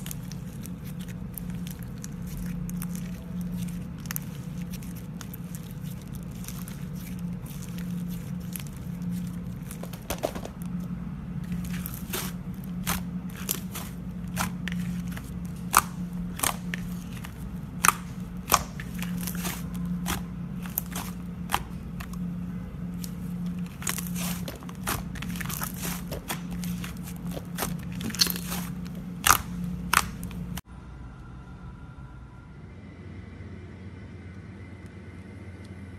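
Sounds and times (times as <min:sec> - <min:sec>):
slime crackling and popping: 0:00.0 - 0:30.6
steady low hum: 0:00.0 - 0:35.9.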